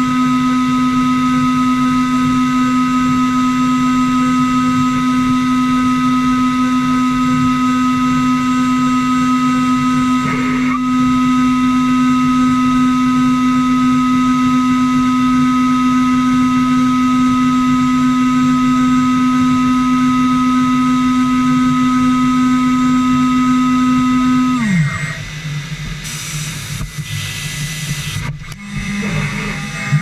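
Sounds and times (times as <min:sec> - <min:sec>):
router spindle whining: 0:00.0 - 0:30.0.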